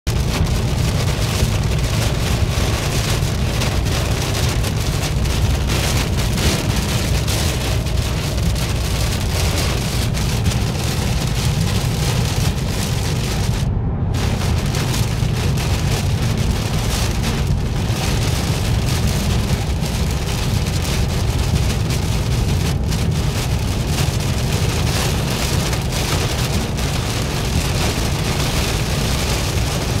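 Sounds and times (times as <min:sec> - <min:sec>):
torrential rain on car roof: 0:00.0 - 0:30.0
tyres rumbling on wet road: 0:00.0 - 0:30.0.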